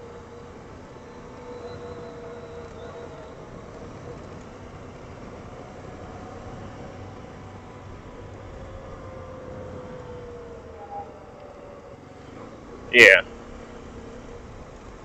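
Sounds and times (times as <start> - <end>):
faint engine whine: 0.0 - 15.0.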